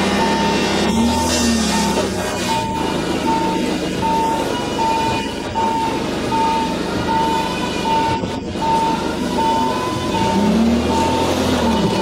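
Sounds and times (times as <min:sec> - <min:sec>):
electronic warning beeper: 0:00.1 - 0:12.0.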